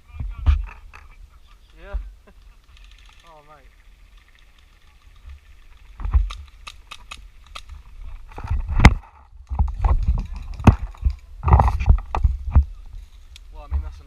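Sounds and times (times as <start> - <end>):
sharp irregular clicks and knocks: 0.4 - 3.4, 4.1 - 12.7.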